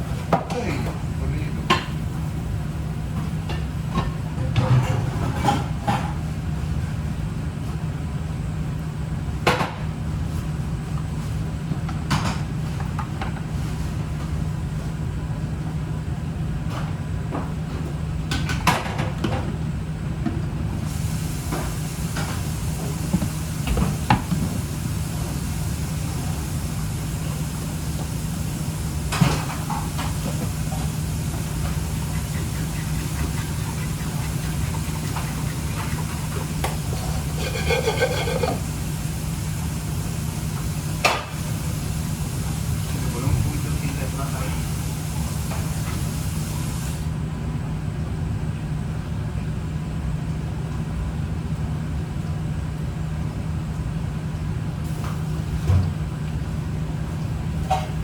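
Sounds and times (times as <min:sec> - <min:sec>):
low hum and hiss: 0:00.0 - 0:58.0.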